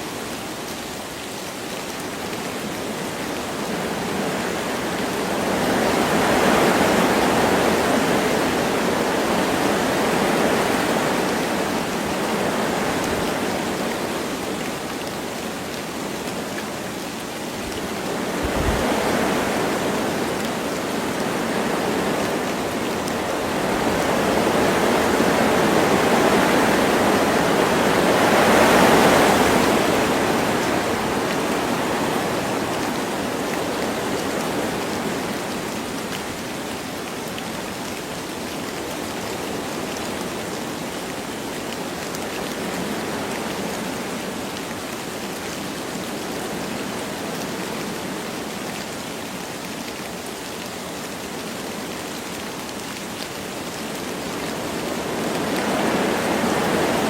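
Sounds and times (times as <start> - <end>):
light rain: 0.0 - 57.0
wind through forest trees: 0.0 - 57.0.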